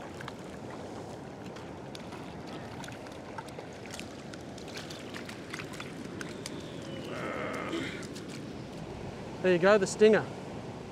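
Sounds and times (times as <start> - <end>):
small splashes and ticks: 0.0 - 8.9.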